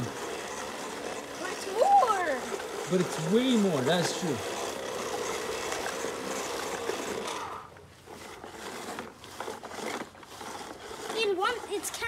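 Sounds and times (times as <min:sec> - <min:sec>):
toy mechanism whirring: 0:00.0 - 0:12.0.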